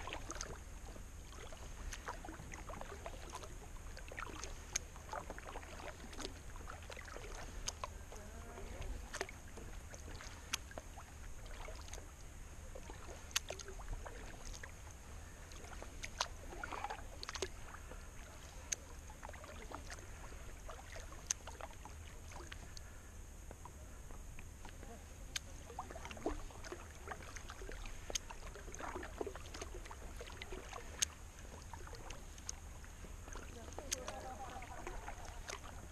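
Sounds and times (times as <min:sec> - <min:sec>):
kayak paddle splashing water: 0:00.0 - 0:35.9
water dripping from paddle: 0:00.0 - 0:35.9.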